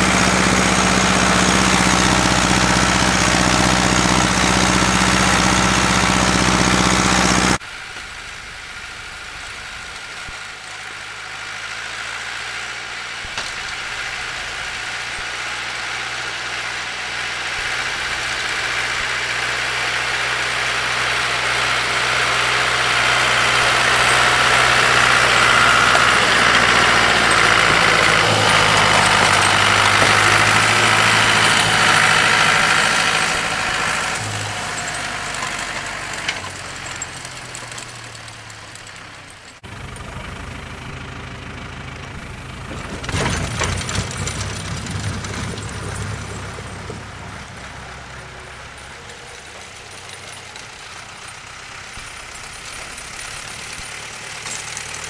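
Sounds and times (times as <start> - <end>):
tractor engine revving: 0.0 - 55.0
tractor engine running: 0.0 - 55.0.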